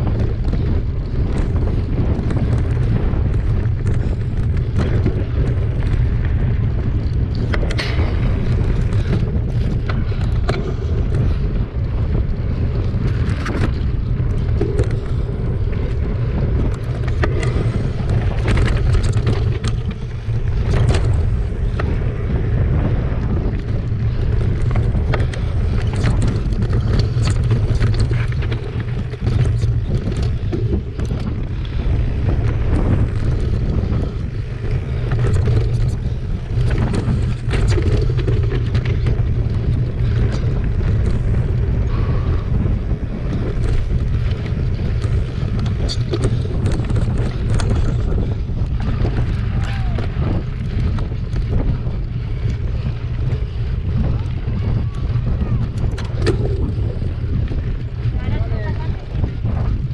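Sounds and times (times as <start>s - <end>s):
bike clicks and rattles: 0.0s - 59.9s
wind buffeting microphone: 0.0s - 59.9s.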